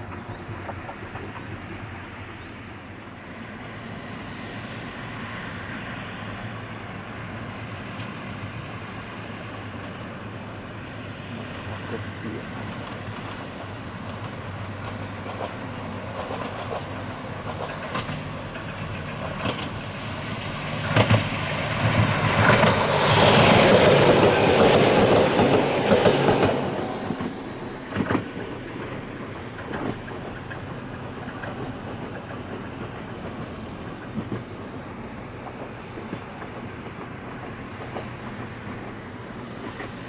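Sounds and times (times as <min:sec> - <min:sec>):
wheels clacking over rail joints: 0:00.0 - 0:03.4, 0:04.8 - 0:40.0
electric train passing: 0:00.0 - 0:40.0.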